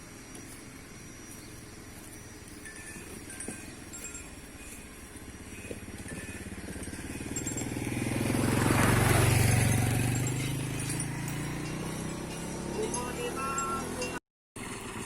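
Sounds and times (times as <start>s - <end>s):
motorcycle engine passing by: 1.2s - 15.0s.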